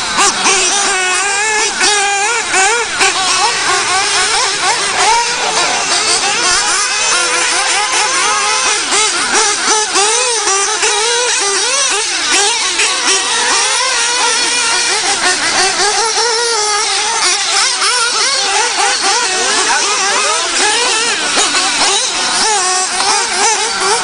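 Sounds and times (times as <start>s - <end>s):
radio-controlled car engines: 0.0s - 24.0s.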